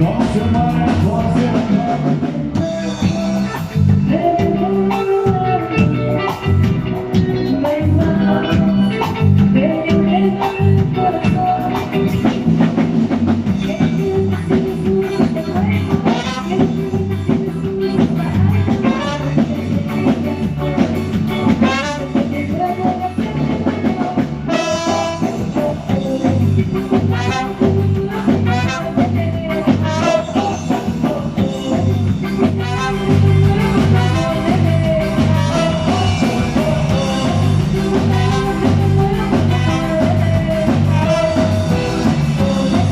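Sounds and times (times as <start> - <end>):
band music: 0.0 - 42.9
drum kit: 0.0 - 42.9
lead melody: 0.0 - 42.9
repeating bass line: 0.0 - 42.9.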